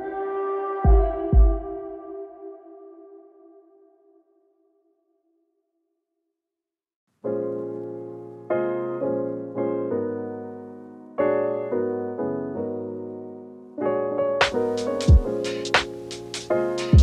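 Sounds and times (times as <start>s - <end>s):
piano chords: 0.0s - 3.8s, 7.2s - 17.0s.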